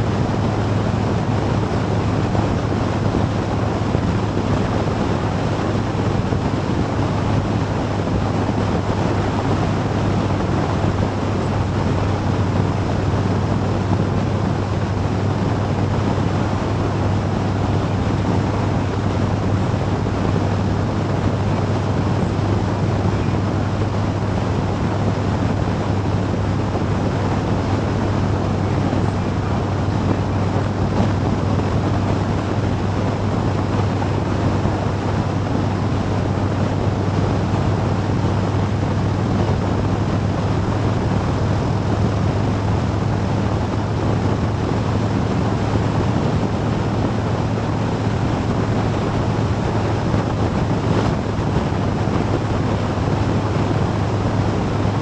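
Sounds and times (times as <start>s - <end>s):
motorcycle engine drone: 0.0s - 55.0s
wind rush on microphone: 0.0s - 55.0s.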